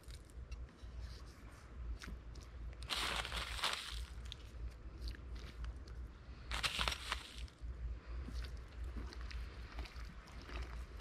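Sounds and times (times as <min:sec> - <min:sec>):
soft squishing of raw meat: 0:00.0 - 0:11.0.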